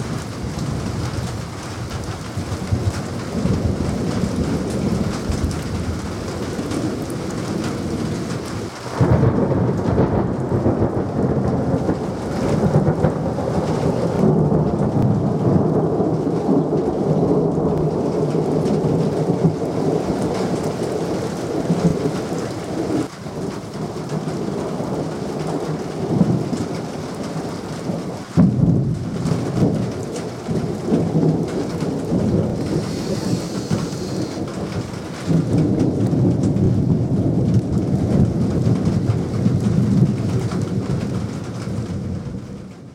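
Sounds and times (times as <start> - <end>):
loud thunder peals: 0.0 - 42.9
steady rain: 0.0 - 42.9
thunder rumbling: 0.0 - 42.9.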